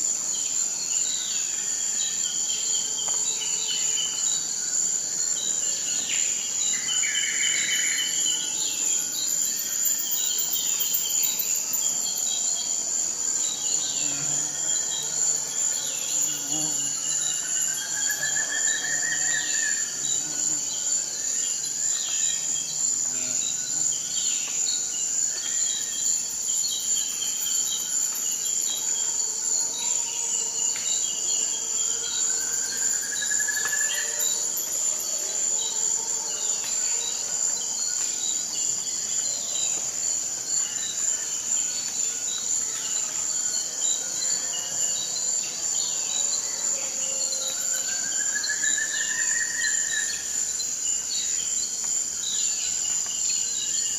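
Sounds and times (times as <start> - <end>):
insects chorus: 0.0 - 53.9.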